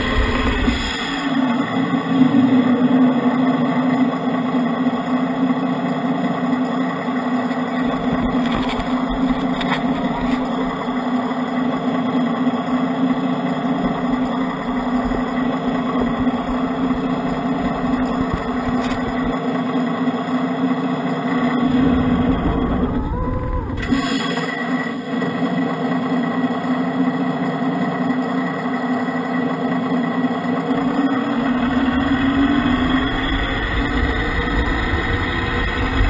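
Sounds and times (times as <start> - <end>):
toy truck motor hum: 0.0 - 36.0.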